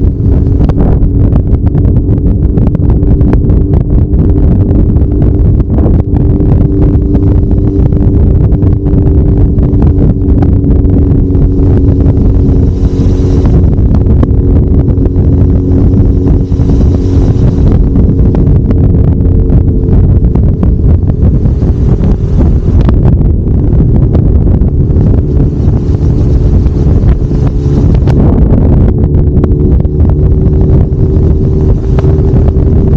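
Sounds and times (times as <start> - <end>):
motorcycle engine cruising: 0.0 - 32.9
wind buffeting microphone: 0.0 - 32.9.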